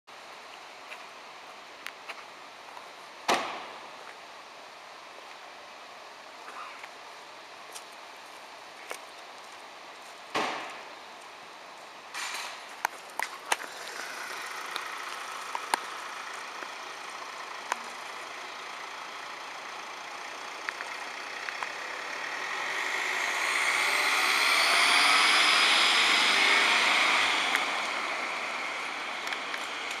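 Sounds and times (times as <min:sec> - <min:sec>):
van engine and tyre noise: 0:00.1 - 0:30.0.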